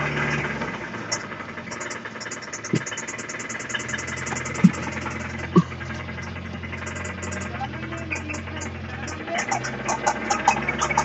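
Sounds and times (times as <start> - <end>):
car engine idling: 0.0 - 11.0
fast even engine ticking: 0.0 - 11.0
sharp engine knocks: 0.0 - 11.0.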